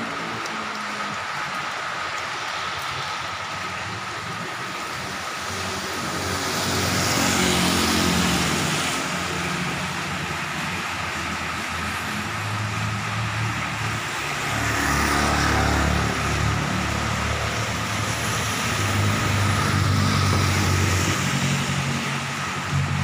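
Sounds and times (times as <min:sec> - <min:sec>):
cars driving on wet road: 0:00.0 - 0:23.0
heavy rain: 0:00.0 - 0:23.0.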